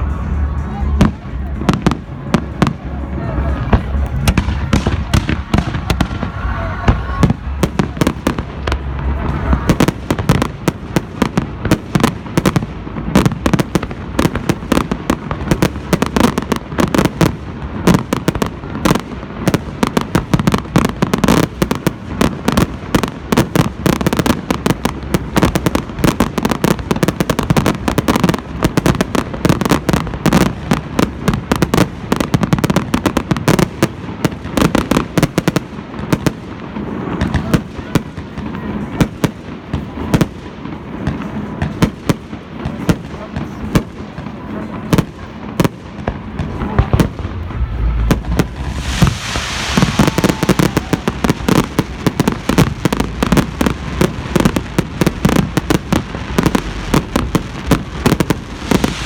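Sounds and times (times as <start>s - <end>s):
fireworks and firecrackers banging: 0.0s - 59.0s.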